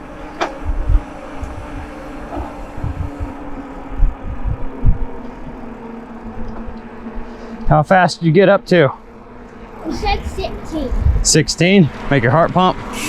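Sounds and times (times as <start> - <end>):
wind buffeting microphone: 0.0 - 7.8, 9.0 - 13.0
steady low hum: 0.0 - 13.0.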